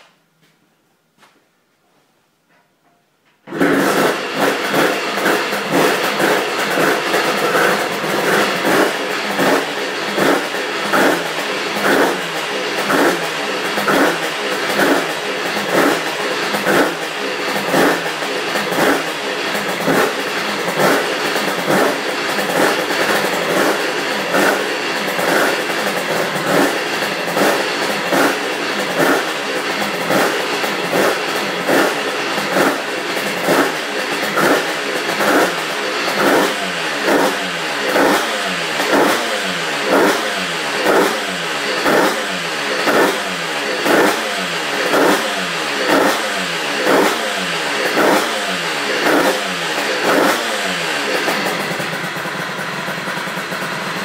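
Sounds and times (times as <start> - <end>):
two-stroke motorcycle engine revving: 3.5 - 54.0.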